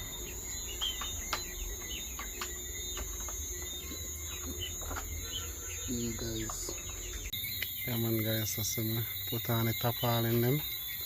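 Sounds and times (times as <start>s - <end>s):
birds chirping: 0.0s - 11.0s
high insect drone: 0.0s - 11.0s.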